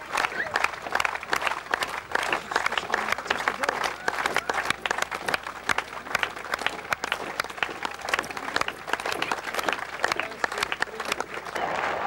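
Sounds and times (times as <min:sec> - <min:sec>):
faint voices: 0:00.0 - 0:11.6
crowd applauding: 0:00.0 - 0:12.0.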